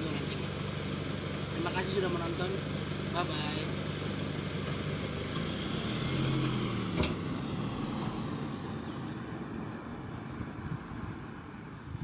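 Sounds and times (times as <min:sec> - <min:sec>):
car engine driving off: 0:00.0 - 0:12.0.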